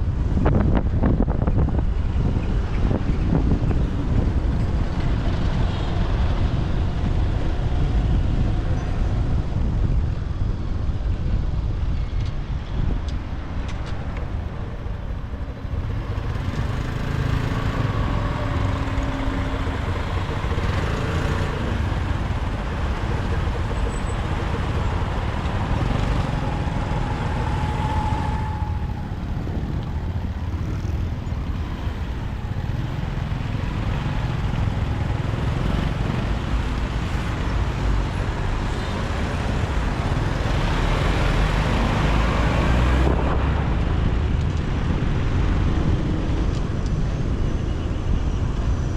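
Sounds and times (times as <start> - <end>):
motorcycle engine and road rush: 0.0 - 48.9
traffic of motorbikes and cars: 0.0 - 48.9.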